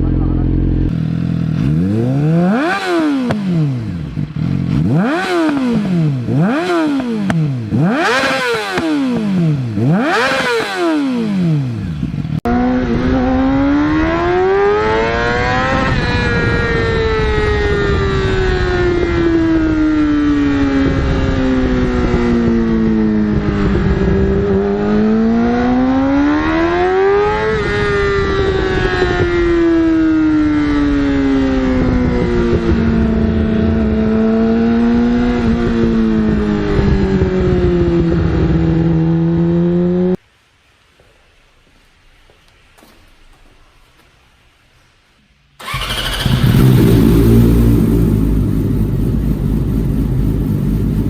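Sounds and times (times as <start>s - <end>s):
motorcycle engine revving: 0.0s - 40.2s, 45.6s - 51.0s.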